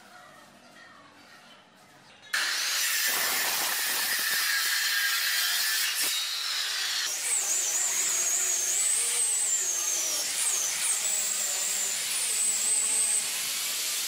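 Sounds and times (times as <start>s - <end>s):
circular saw cutting wood: 2.4s - 14.0s.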